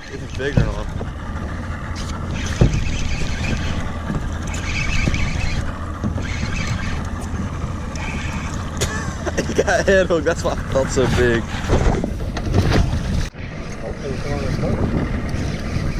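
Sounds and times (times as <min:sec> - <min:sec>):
boat motor rumbling: 0:00.0 - 0:15.9
wind buffeting microphone: 0:00.0 - 0:15.9.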